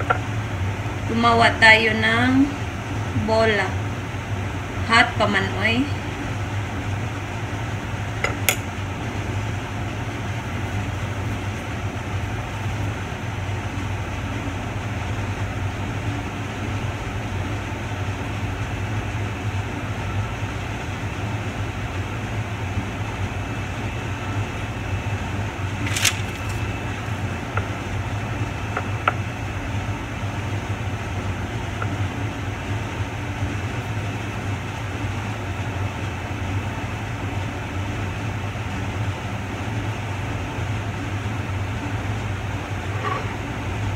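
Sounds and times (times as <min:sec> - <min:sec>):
ventilation hum: 0:00.0 - 0:43.9.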